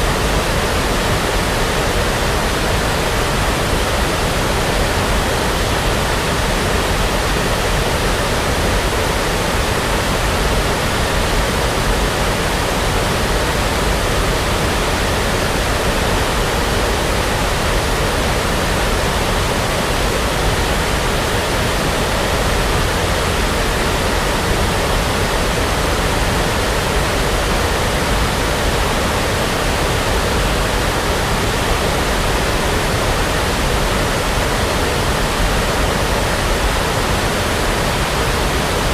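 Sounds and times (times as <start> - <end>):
brown noise rush: 0.0 - 38.9.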